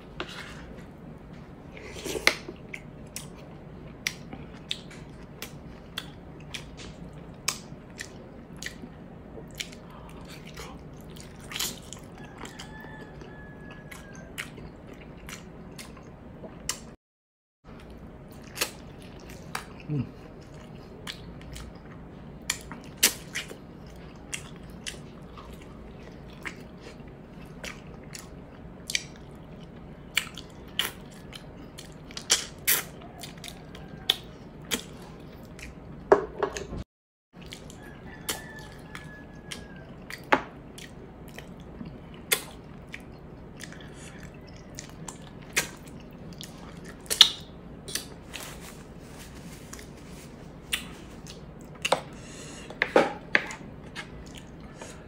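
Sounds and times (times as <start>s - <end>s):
close chewing and lip-smacks: 2.2s - 17.0s, 17.8s - 36.0s, 37.4s - 48.2s, 50.7s - 52.2s, 53.4s - 55.0s.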